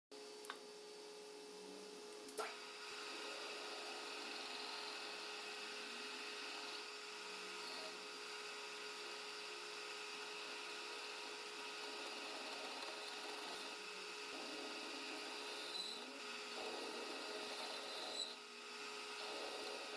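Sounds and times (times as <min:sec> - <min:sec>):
metal lathe running: 0:02.4 - 0:19.9.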